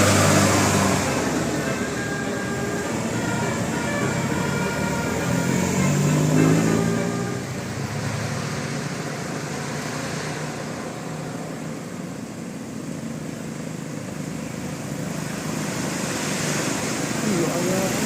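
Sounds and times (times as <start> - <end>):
roadside traffic noise: 0.0 - 18.0.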